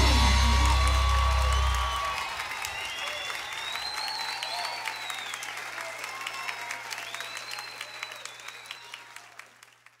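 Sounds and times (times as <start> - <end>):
audience applauding and cheering: 0.0 - 10.0.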